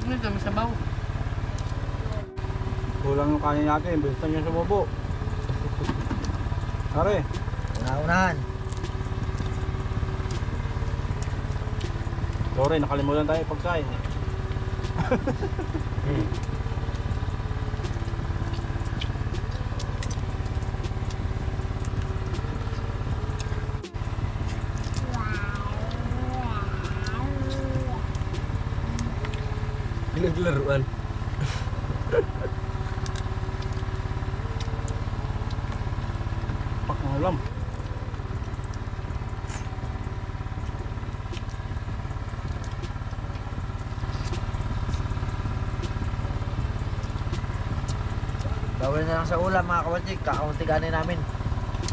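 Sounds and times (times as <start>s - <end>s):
small engine throbbing: 0.0s - 51.9s.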